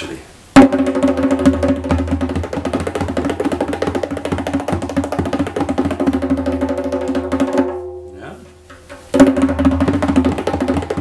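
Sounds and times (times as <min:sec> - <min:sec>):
bass hand drum finger roll: 0:00.6 - 0:11.0.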